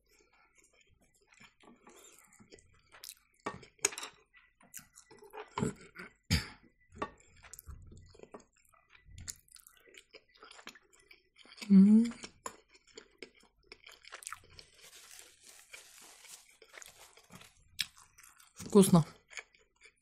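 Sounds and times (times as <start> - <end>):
wet chewing: 0.1 - 3.8, 4.4 - 6.2, 7.0 - 20.0.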